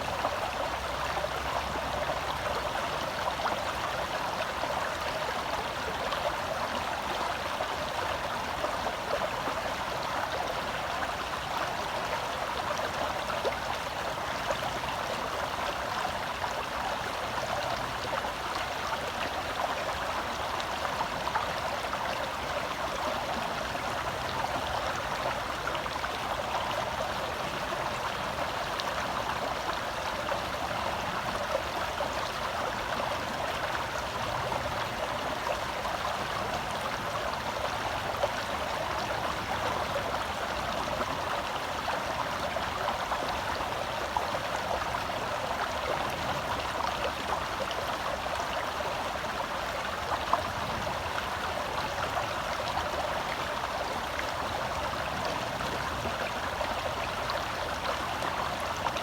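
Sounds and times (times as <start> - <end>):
forest stream flowing: 0.0 - 59.0.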